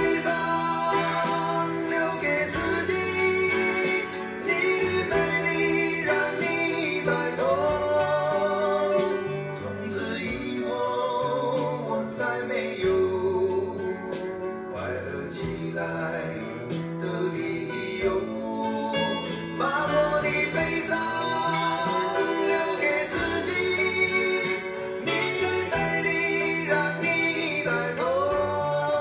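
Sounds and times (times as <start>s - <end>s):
song over speakers: 0.0s - 29.0s.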